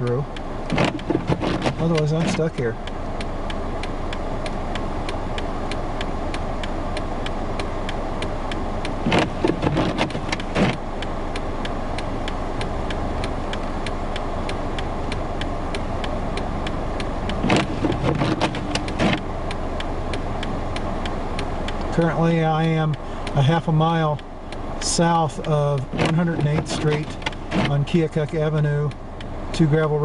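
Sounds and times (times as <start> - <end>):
car noise: 0.0 - 30.0
fast even ticking: 0.0 - 30.0.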